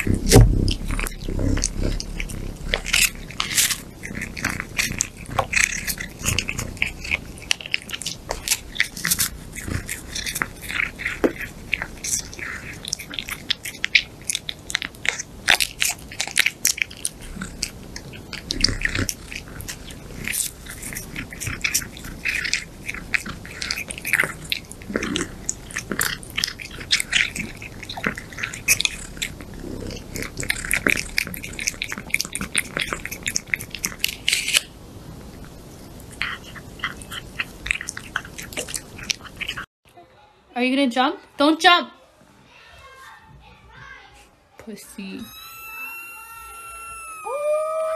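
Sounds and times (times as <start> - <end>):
cat eating wet smacking: 0.0 - 34.7, 35.3 - 39.7.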